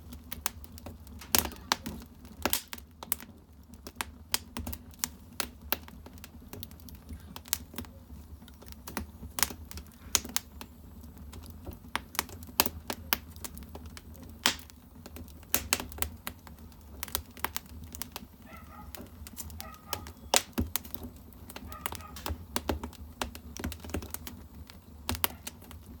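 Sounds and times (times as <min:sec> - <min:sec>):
firewood crackling and popping: 0:00.0 - 0:26.0
low steady furnace rumble: 0:00.0 - 0:26.0.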